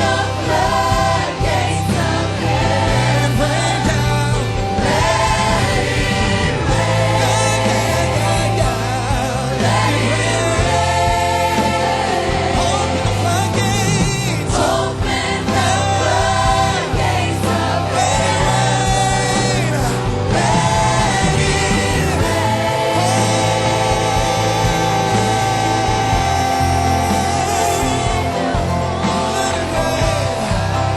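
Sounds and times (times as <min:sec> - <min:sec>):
band with steady bass: 0:00.0 - 0:30.9
choir singing: 0:00.0 - 0:30.9.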